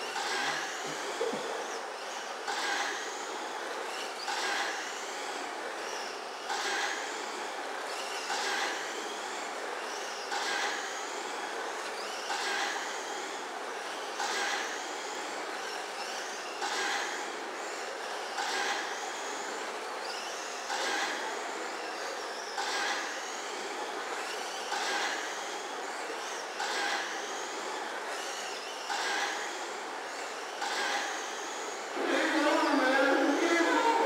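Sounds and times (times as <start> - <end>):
rc truck motors whining: 0.0 - 34.0.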